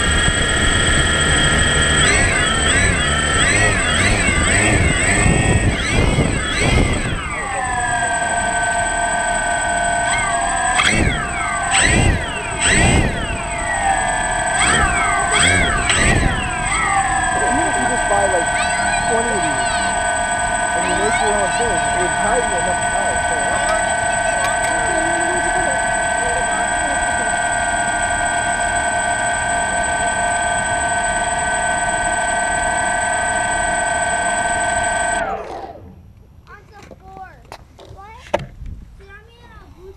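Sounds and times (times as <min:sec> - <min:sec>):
drone propellers whining: 0:00.0 - 0:36.6.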